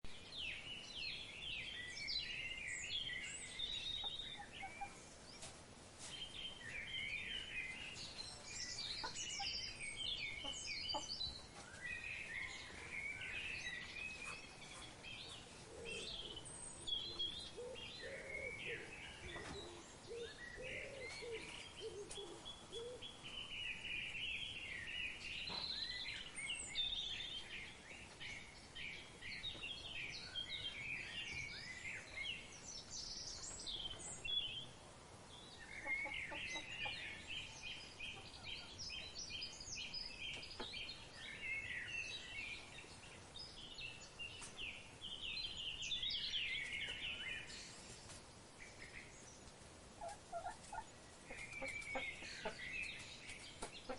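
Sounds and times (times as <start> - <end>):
birds chirping: 0.1 - 53.9.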